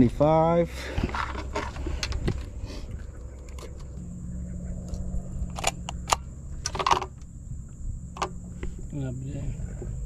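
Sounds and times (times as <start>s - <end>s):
low steady hum: 0.0s - 10.0s
wind rumble: 1.0s - 10.0s.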